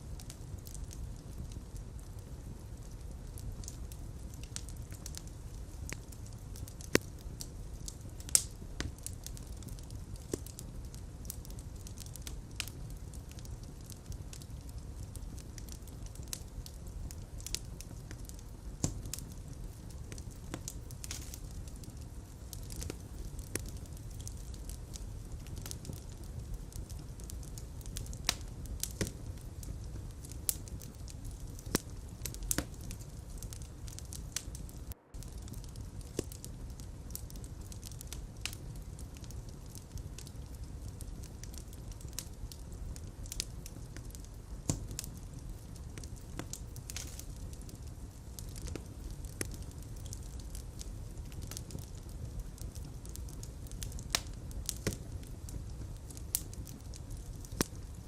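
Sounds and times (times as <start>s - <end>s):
fire crackling: 0.0s - 58.0s
low rumble of flame: 0.0s - 58.0s
pops and snaps of fire: 0.1s - 58.0s.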